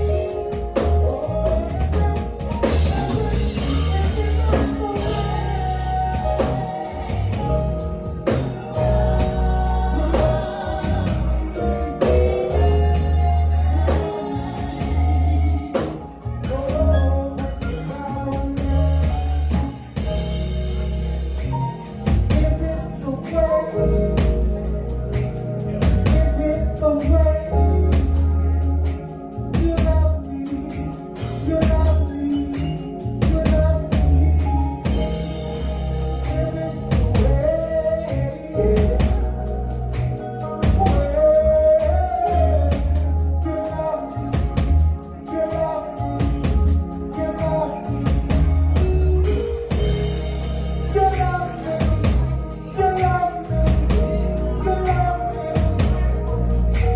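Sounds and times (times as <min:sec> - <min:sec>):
band playing: 0:00.0 - 0:56.9
deep bass notes: 0:00.0 - 0:56.9
drum kit: 0:00.0 - 0:56.9
person singing gospel: 0:00.0 - 0:56.9.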